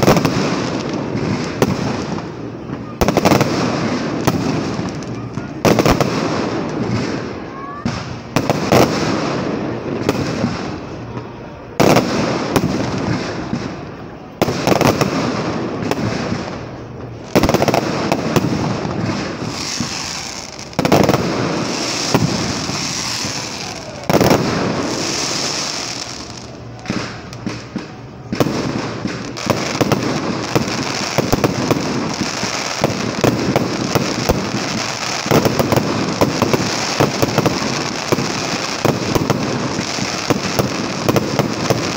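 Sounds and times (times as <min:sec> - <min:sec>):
crackling fireworks reports: 0:00.0 - 0:41.9
fireworks bangs echoing: 0:00.0 - 0:41.9.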